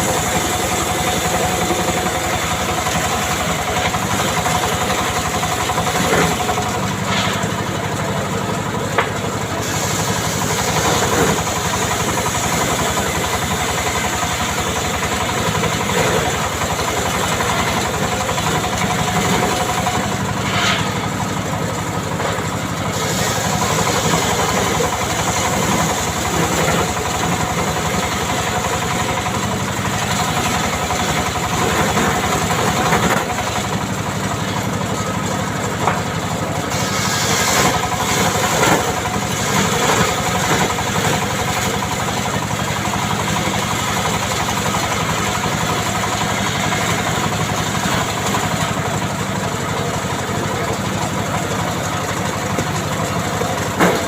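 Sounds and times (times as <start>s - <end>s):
saw engine running: 0.0s - 54.0s.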